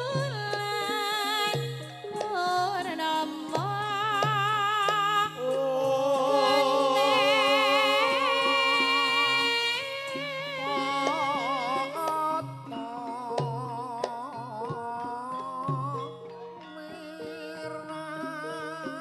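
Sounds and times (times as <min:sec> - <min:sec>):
gamelan playing: 0:00.0 - 0:19.0
woman singing: 0:00.0 - 0:19.0.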